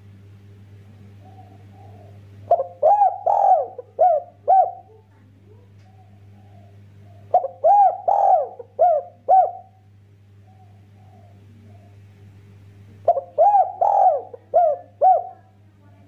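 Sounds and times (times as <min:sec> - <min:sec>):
faint low hum: 0:00.0 - 0:16.0
dove cooing: 0:00.9 - 0:12.2, 0:12.9 - 0:15.6.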